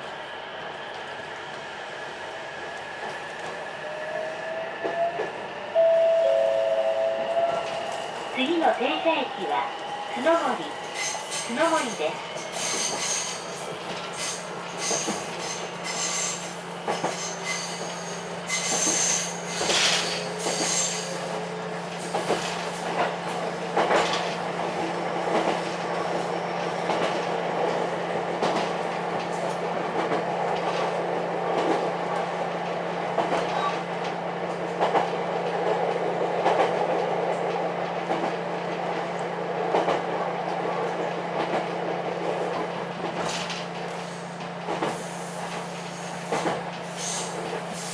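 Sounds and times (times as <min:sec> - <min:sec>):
railcar hum: 0:00.0 - 0:47.9
wheel and rail rumble: 0:04.7 - 0:47.9.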